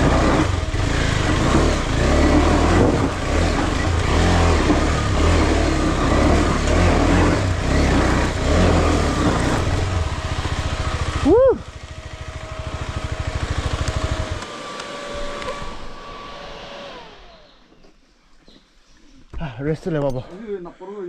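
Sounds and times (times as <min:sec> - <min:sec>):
motorcycle engine revving: 0:00.0 - 0:17.7.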